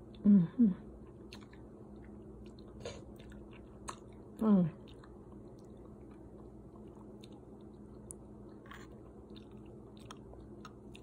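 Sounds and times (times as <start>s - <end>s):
low steady hum: 0.0s - 11.0s
chewing and mouth clicks: 1.0s - 11.0s.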